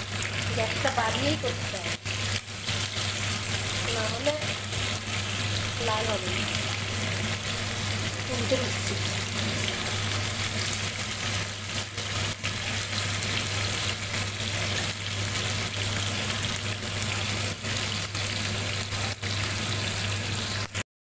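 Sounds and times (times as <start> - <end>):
chicken sizzling in hot oil: 0.0 - 20.8.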